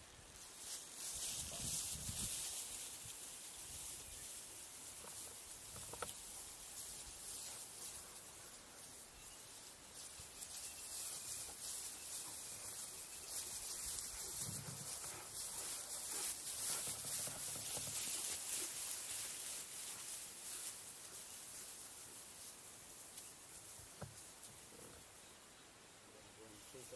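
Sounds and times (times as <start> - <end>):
dry grass rustling and crackling: 0.0 - 25.5.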